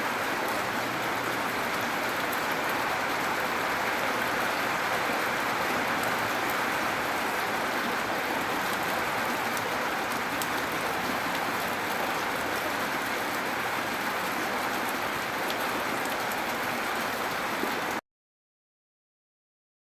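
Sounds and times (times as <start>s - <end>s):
gentle rain falling: 0.0s - 18.0s.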